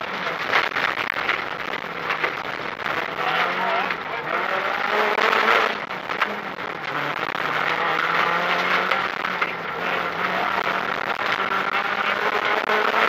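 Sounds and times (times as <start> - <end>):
car engine at high revs: 0.0 - 13.0
gravel hitting car: 0.0 - 13.0
road noise: 0.0 - 13.0.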